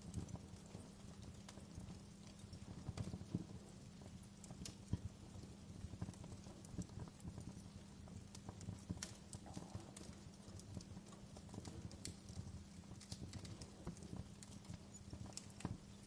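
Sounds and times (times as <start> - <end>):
fire low rumble: 0.0 - 16.0
wood fire crackling and popping: 0.0 - 16.0.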